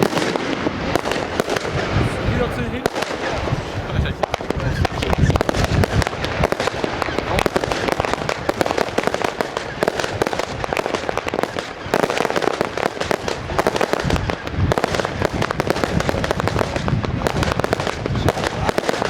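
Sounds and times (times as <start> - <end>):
deep firework booms: 0.0 - 19.0
fireworks bangs and crackling: 0.0 - 19.0.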